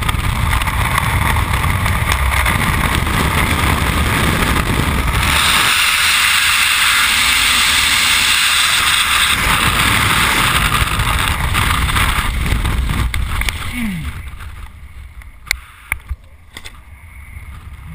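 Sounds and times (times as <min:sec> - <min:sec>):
wind rushing over microphone: 0:00.0 - 0:17.9.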